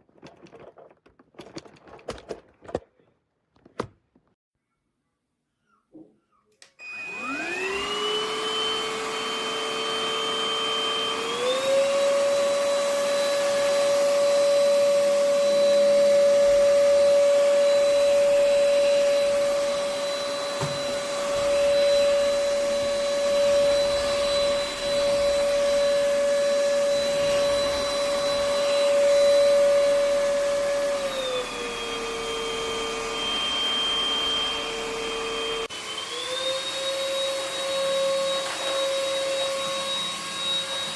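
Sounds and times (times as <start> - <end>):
stick vacuum motor whine: 6.8 - 40.9.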